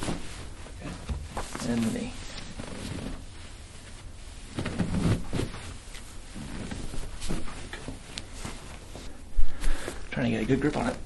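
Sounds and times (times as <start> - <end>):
clothing rustling: 0.0 - 11.0.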